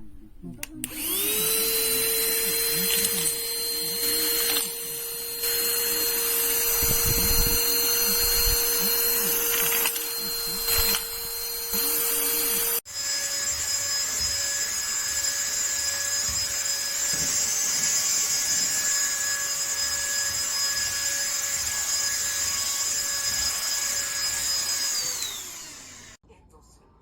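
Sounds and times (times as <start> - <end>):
motor spinning down: 0.8 - 26.2
vacuum cleaner running: 0.8 - 26.2.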